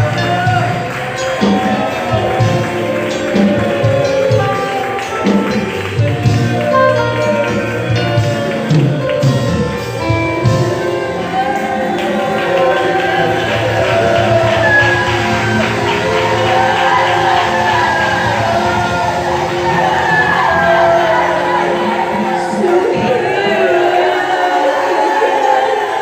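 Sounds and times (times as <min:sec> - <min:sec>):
drum beat: 0:00.0 - 0:23.7
live band music: 0:00.0 - 0:26.0
youth choir singing worship song: 0:00.0 - 0:26.0.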